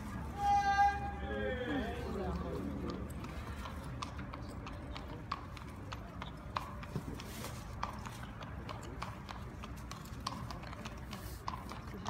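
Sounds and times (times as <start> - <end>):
hooves clip-clopping on stone: 2.2 - 12.0.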